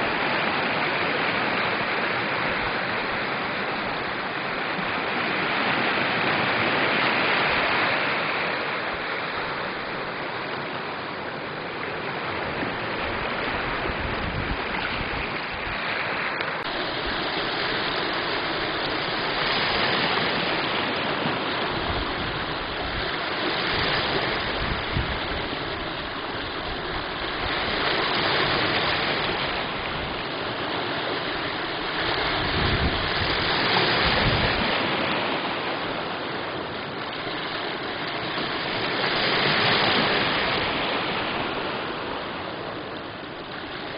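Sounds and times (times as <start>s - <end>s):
lake waves lapping on shore: 0.0s - 43.9s.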